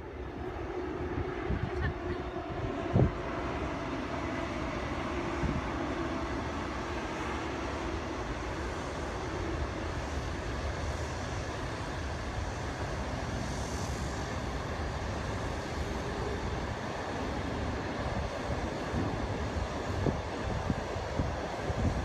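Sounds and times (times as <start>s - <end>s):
train wheels rumbling on rails: 1.4s - 22.0s.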